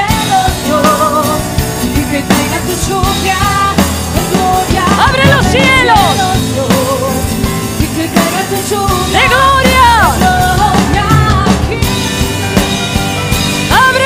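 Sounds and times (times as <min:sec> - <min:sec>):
women singing worship song: 0:00.0 - 0:12.3, 0:13.7 - 0:14.0
live band playing: 0:00.0 - 0:14.0.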